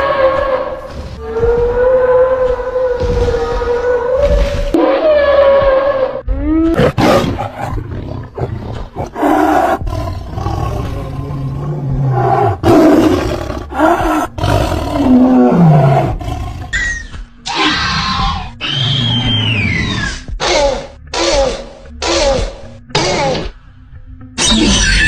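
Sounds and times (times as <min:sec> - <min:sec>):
animal roars and calls: 0:00.0 - 0:20.3.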